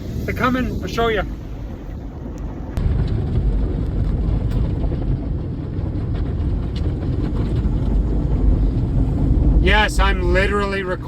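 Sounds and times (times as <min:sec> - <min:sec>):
car wash brushes and water rumble: 0:00.0 - 0:11.0.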